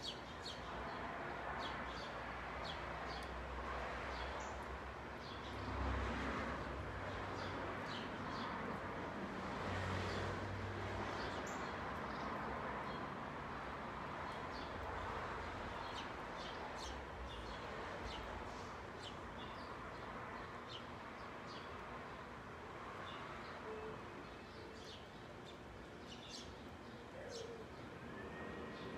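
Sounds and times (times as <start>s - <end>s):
songbirds chirping: 0.0s - 28.9s.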